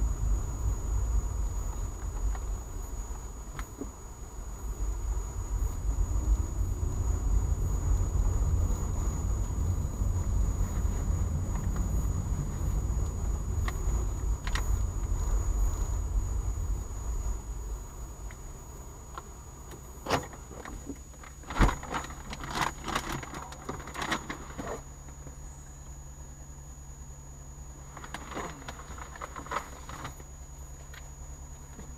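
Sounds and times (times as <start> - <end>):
car engine rumble from cabin: 0.0 - 31.9.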